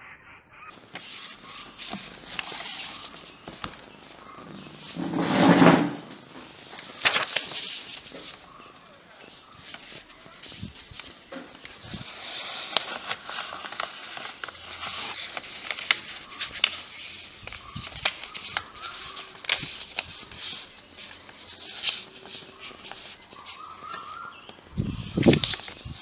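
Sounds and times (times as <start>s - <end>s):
paper crinkling and creasing: 0.7s - 26.0s.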